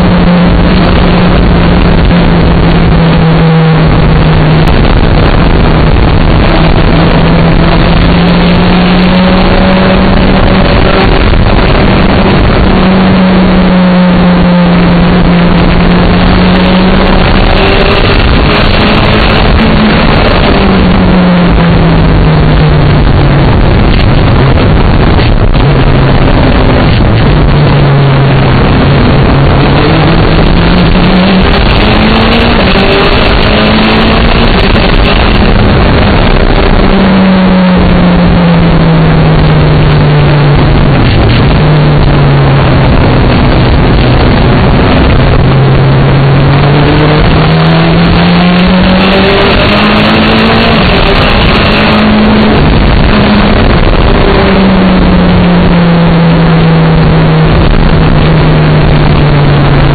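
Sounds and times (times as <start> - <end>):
rally car engine running hard: 0.0 - 59.9
wind and road noise: 0.0 - 59.9.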